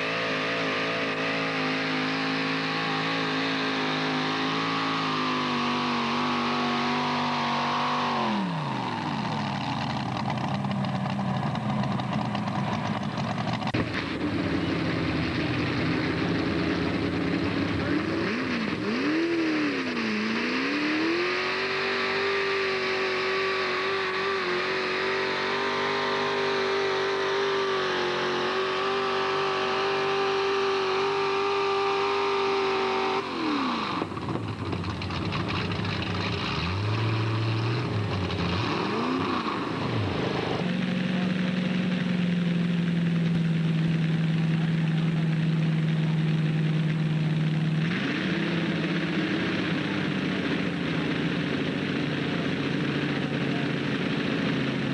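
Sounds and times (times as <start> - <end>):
tractor engine revving: 0.0 - 54.9.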